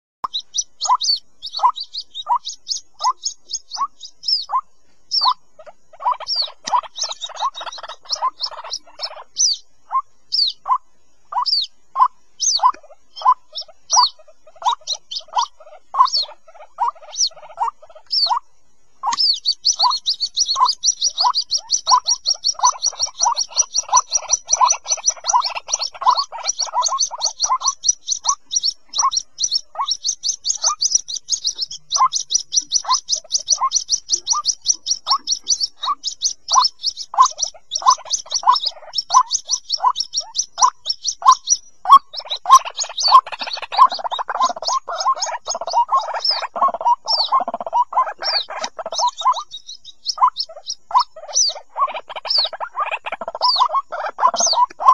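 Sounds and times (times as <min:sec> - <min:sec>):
rapid high chirping: 0:00.2 - 0:54.9
waterhen chicks calling: 0:00.2 - 0:54.9.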